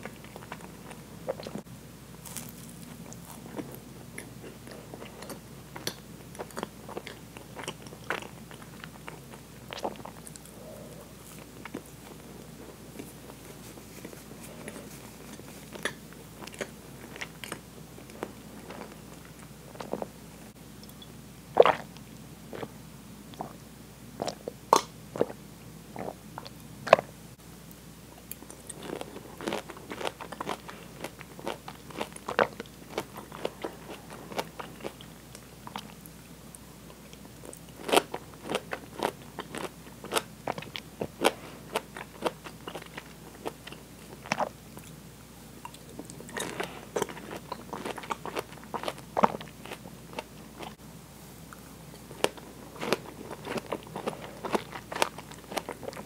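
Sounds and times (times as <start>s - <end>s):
chewing fruit: 0.0s - 20.2s, 20.8s - 22.7s, 28.2s - 45.0s, 45.6s - 50.8s, 51.5s - 56.0s.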